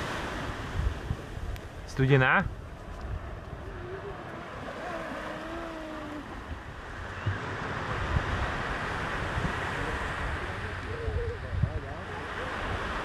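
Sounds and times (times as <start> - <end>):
ocean surf washing up beach: 0.0 - 13.0
wind rumbling on microphone: 0.0 - 13.0.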